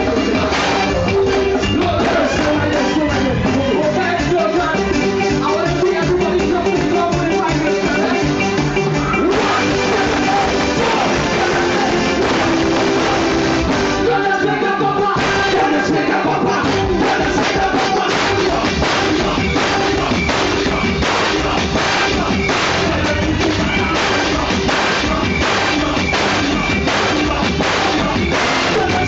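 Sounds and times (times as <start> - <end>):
drum strokes: 0.0 - 14.2, 14.8 - 29.0
live band music: 0.0 - 29.0
person singing: 0.0 - 29.0.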